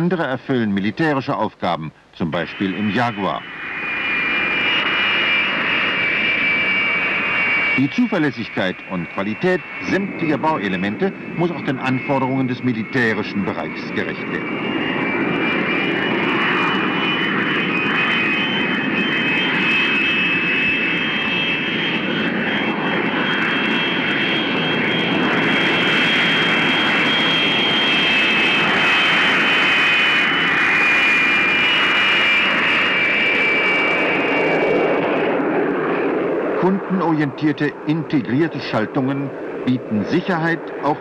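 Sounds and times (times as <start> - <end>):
jet engines whining: 0.0 - 41.0
jet noise rushing: 2.2 - 41.0.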